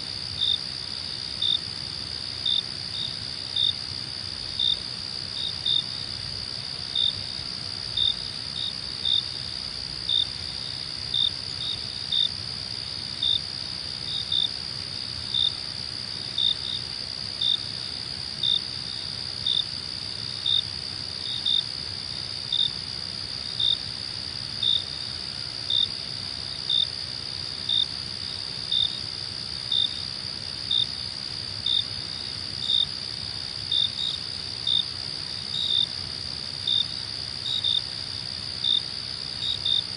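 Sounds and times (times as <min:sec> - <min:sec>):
cricket chirps: 0:00.0 - 0:39.9
crickets trilling: 0:00.0 - 0:39.9.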